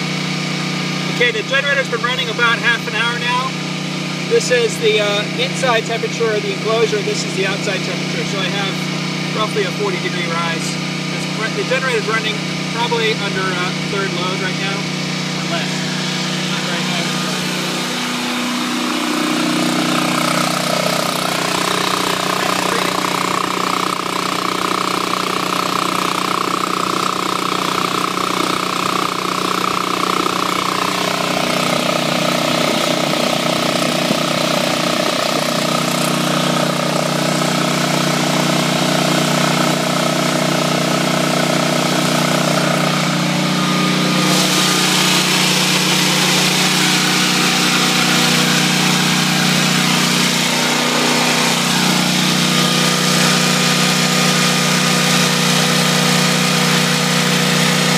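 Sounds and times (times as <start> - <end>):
generator engine running: 0.0 - 57.9.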